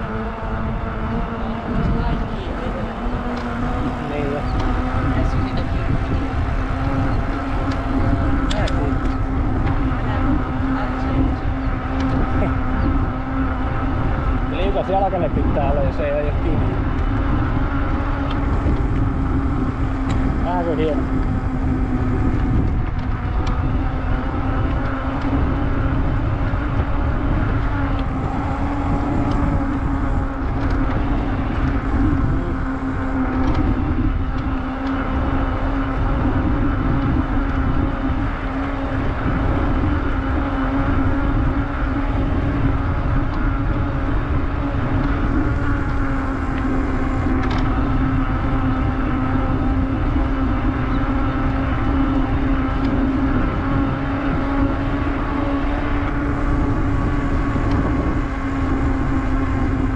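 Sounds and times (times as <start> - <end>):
bike tyres humming on asphalt: 0.0 - 59.9
wind rumble on microphone: 0.0 - 59.9.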